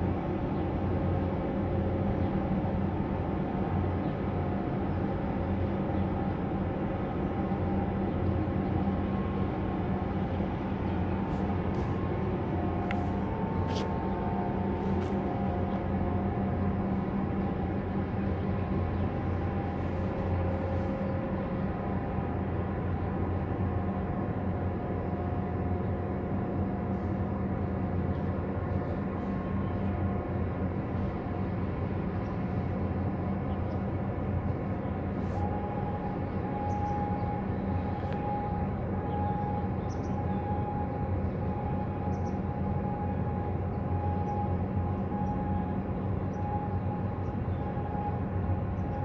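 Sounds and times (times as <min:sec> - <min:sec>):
ship diesel engine droning: 0:00.0 - 0:49.0.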